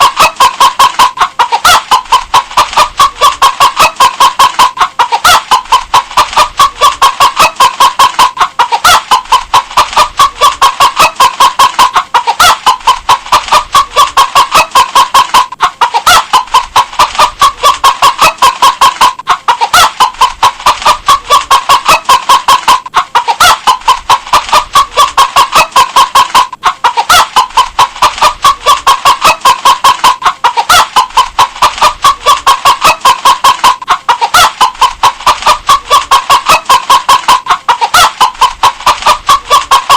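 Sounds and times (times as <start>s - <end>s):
hen clucking: 0.0s - 39.9s.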